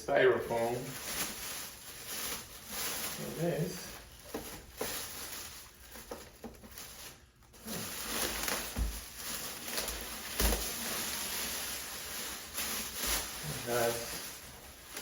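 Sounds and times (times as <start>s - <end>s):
rustling packaging and plastic bags: 0.0s - 15.0s.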